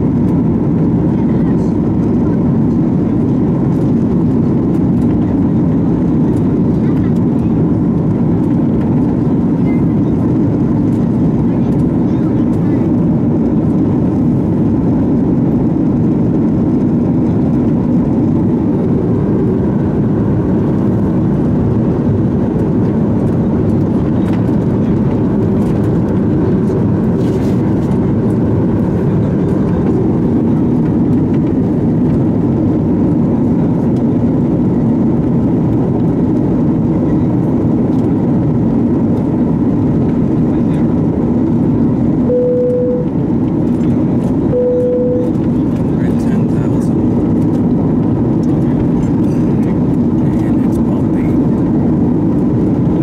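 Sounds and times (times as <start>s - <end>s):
airplane cabin roar: 0.0s - 53.0s.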